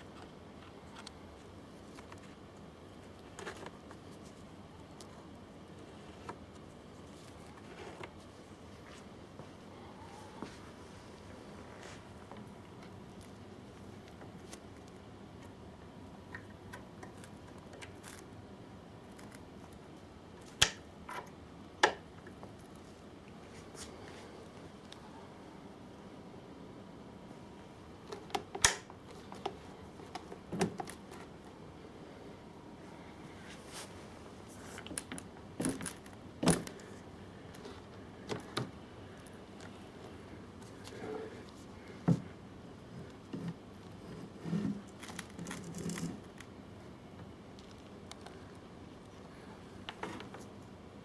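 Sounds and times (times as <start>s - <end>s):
low steady background: 0.0s - 51.0s.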